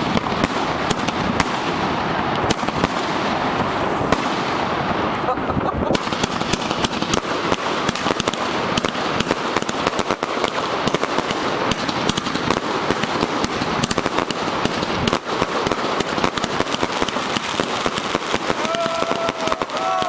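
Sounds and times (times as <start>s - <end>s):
firework cake bangs and pops: 0.0s - 20.0s
rush of firework effects: 0.0s - 20.0s.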